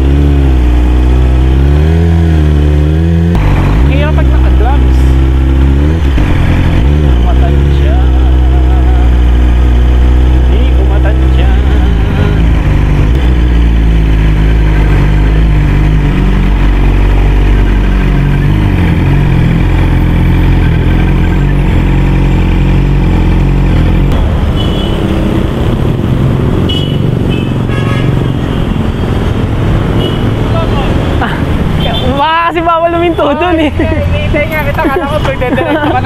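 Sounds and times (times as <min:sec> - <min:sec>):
motorcycle engine running: 0:00.0 - 0:36.0
roadside traffic noise: 0:00.0 - 0:36.0.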